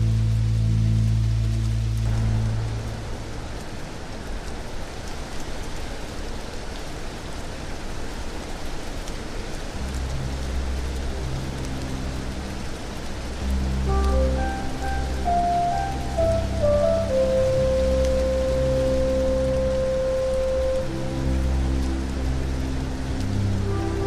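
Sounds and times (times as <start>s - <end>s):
low droning tones: 0.0s - 5.1s, 9.8s - 24.0s
rain falling: 0.0s - 24.0s
raindrops ticking: 0.0s - 24.0s.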